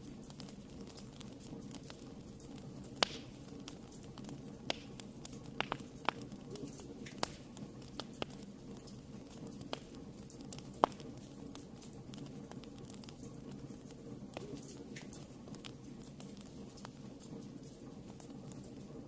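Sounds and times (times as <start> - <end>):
fire popping and snapping: 0.0 - 19.0
low steady flames burning: 0.0 - 19.0
wood fire crackling: 0.0 - 19.0.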